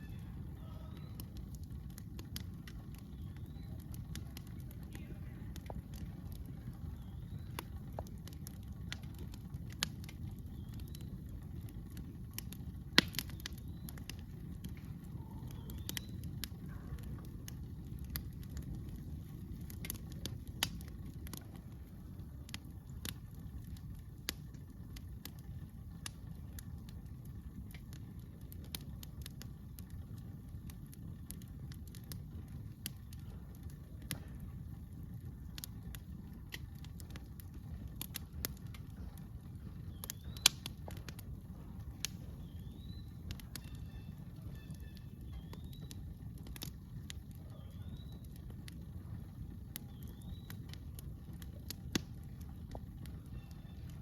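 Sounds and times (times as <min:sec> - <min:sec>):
campfire crackling and popping: 0:00.0 - 0:54.0
steady low rumble: 0:00.0 - 0:54.0.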